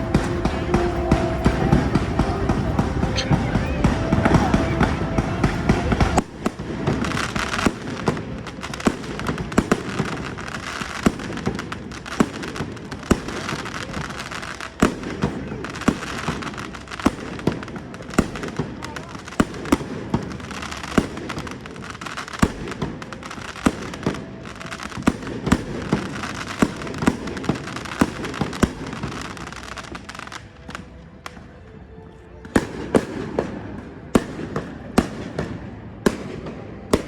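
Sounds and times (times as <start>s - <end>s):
fireworks sharp bangs: 0.0s - 31.4s, 32.5s - 37.0s
fireworks crackling: 0.0s - 37.0s.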